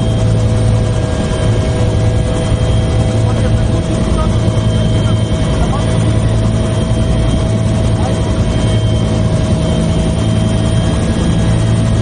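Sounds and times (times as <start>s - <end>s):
helicopter engine and rotor drone: 0.0s - 12.0s
high whine: 0.0s - 12.0s.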